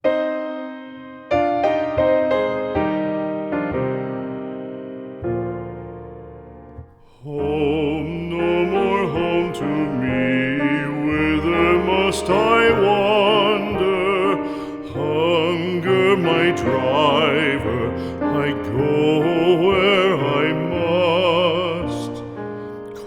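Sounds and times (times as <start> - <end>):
mournful melody with vibrato: 0.0 - 23.0
piano chord: 0.0 - 23.0.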